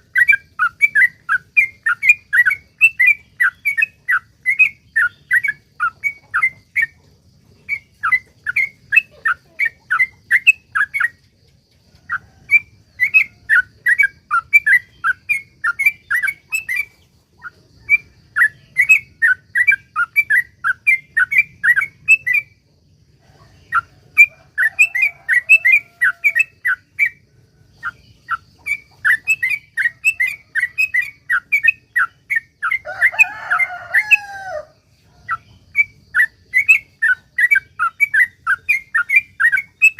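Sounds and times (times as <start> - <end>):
low chattering bird call: 0.0 - 39.9.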